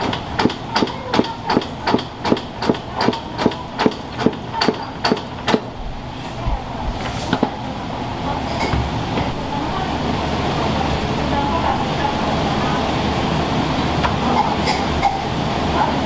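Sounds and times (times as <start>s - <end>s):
kitchen background noise: 0.0s - 16.0s.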